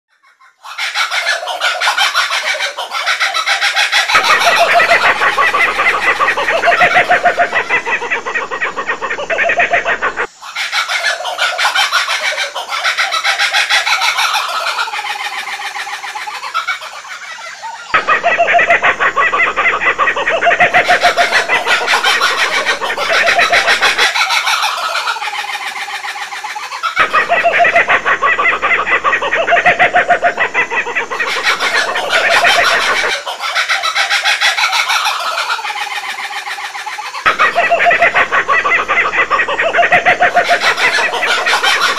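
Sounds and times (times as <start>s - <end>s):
kookaburras laughing calls: 0.1s - 41.9s.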